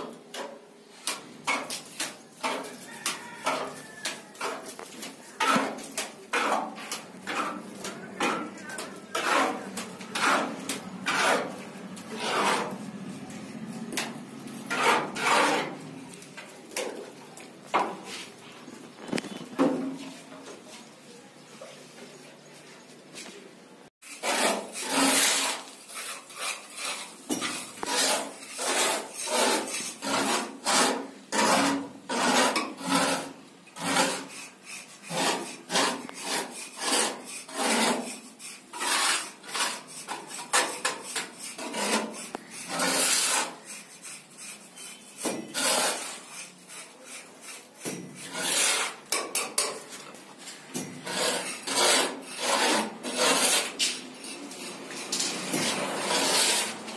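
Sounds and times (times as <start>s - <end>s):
metal tool scraping plaster: 0.0s - 16.2s, 24.0s - 56.9s.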